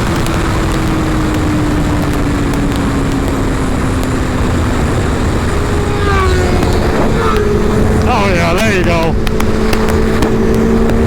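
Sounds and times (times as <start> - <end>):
motorcycle engine: 0.0 - 11.0
wind rush on helmet microphone: 0.0 - 11.0.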